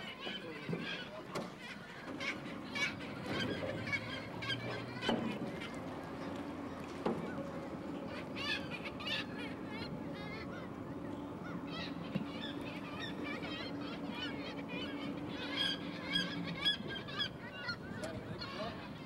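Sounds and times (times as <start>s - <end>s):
boat engine hum: 0.0s - 19.0s
seabirds calling: 0.0s - 19.0s.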